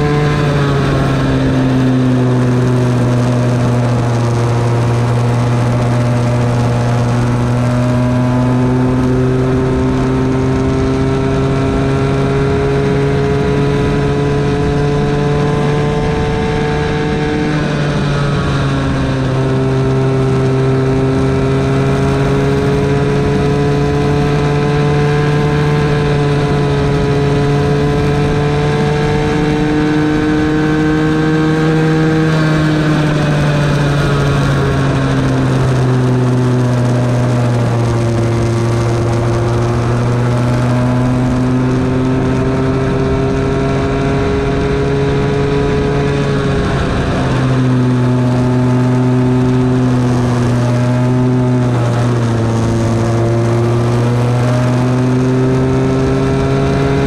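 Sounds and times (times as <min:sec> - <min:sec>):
go-kart engine: 0:00.0 - 0:57.0.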